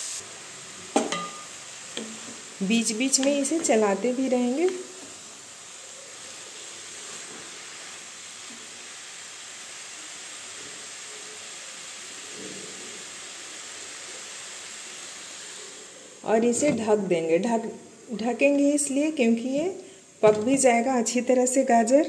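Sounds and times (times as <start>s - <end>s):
carrots sizzling in hot fat: 0.0s - 22.0s.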